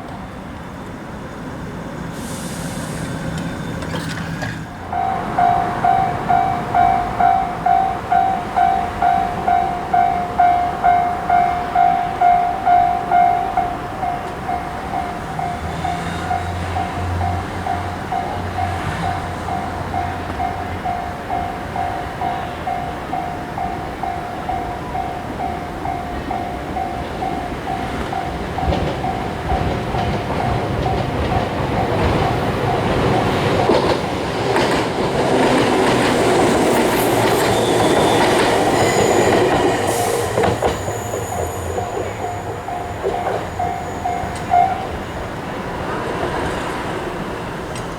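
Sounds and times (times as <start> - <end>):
train wheels rumbling on rails: 0.0 - 47.9
level-crossing alarm ringing: 4.7 - 46.6.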